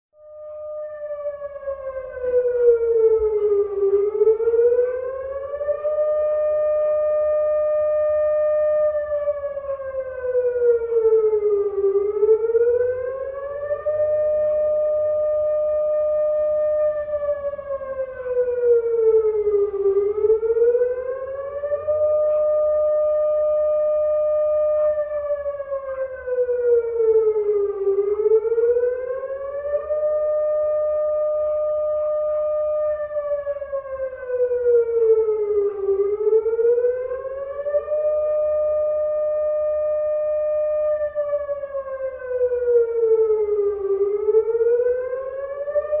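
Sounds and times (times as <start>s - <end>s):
air-raid siren: 0.1s - 46.0s.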